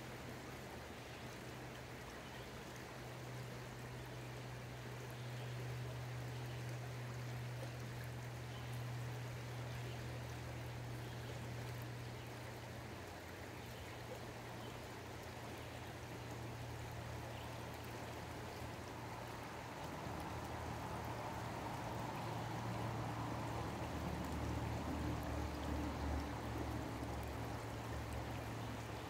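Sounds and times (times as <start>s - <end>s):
water rushing over rocks: 5.7s - 29.0s.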